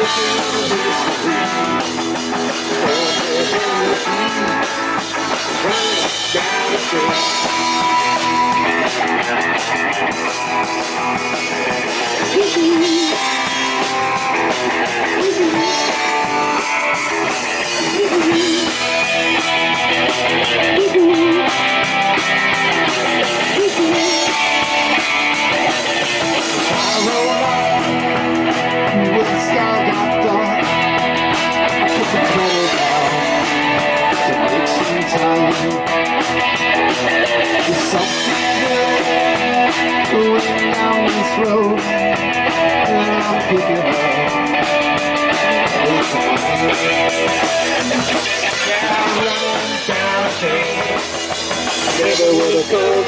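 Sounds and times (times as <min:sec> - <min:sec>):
lead guitar with bending notes: 0:00.0 - 0:53.0
rock band playing: 0:00.0 - 0:53.0.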